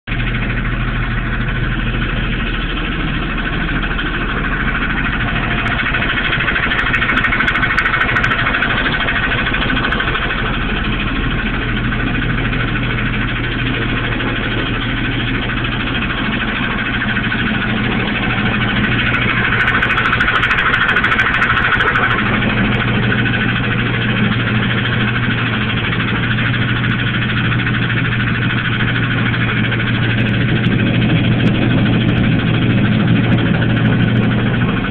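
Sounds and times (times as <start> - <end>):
van engine running: 0.0 - 34.9.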